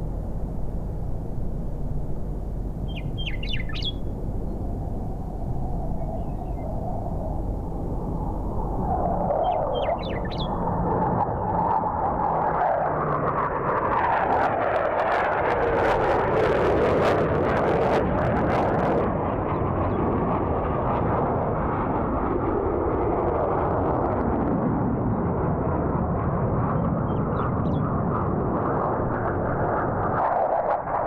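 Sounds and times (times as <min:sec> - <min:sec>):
jet roar: 0:00.0 - 0:31.0.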